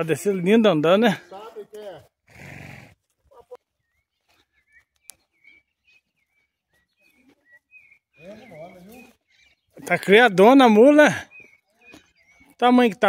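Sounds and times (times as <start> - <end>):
faint songbird chirping: 0.0 - 2.3, 3.2 - 13.0.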